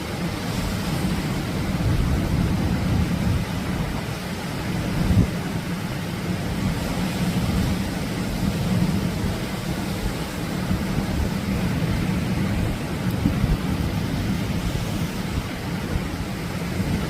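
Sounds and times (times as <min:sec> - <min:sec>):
waves breaking: 0:00.0 - 0:17.0.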